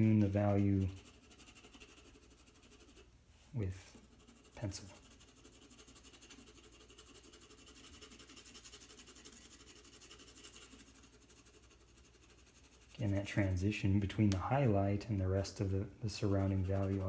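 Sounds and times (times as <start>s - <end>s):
pencil scratching on paper: 0.0s - 3.1s, 3.8s - 13.7s, 15.3s - 17.0s.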